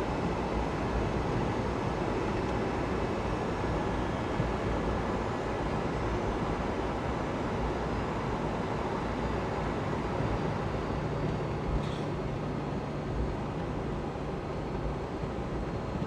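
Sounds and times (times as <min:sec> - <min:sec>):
jet engine and airflow noise: 0:00.0 - 0:16.0.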